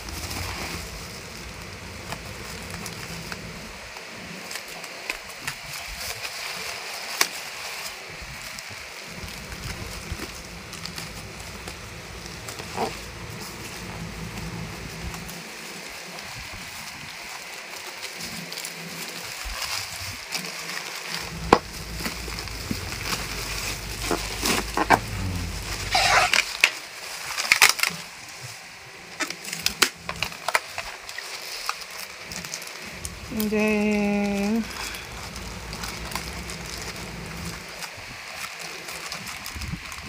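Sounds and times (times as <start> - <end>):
plastic packaging crinkling: 0.0 - 40.0.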